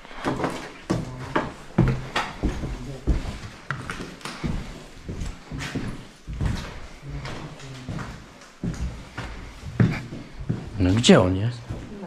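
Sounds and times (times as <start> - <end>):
footsteps on wooden floor: 0.0 - 12.0.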